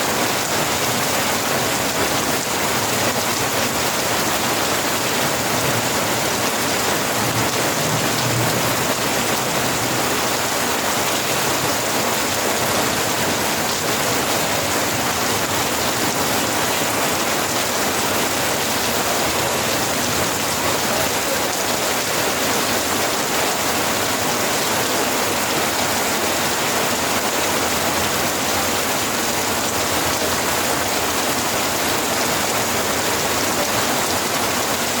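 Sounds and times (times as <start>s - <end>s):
steady rainfall: 0.0s - 35.0s.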